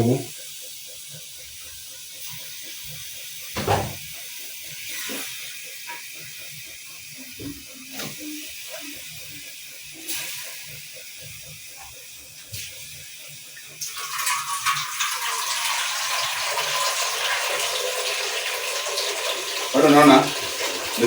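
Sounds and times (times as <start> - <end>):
stew simmering hiss: 0.0 - 21.0.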